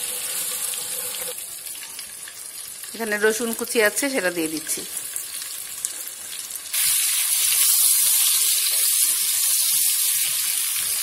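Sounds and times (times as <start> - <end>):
garlic sizzling in a frying pan: 0.0 - 11.0.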